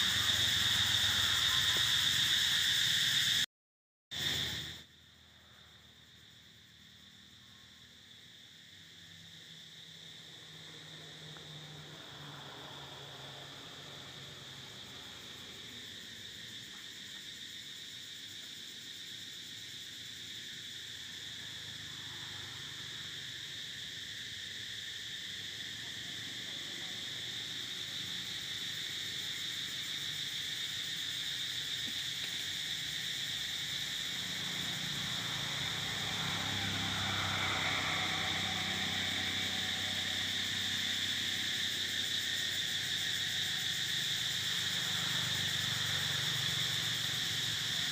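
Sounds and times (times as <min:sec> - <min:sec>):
high-pitched insect drone: 0:00.0 - 0:03.5, 0:04.2 - 0:47.9.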